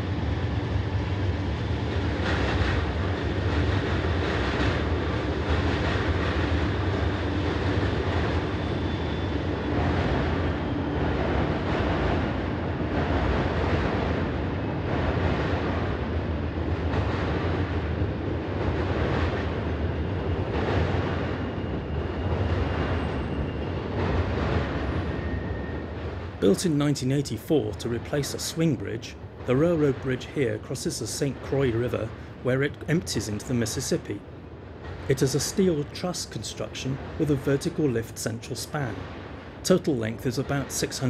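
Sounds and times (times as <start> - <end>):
freight train rumbling over bridge: 0.0 - 41.0.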